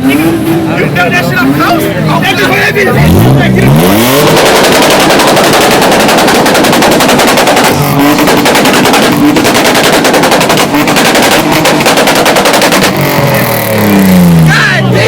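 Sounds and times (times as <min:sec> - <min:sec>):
car engine revving: 0:00.0 - 0:15.0
car exhaust popping and crackling: 0:00.0 - 0:15.0.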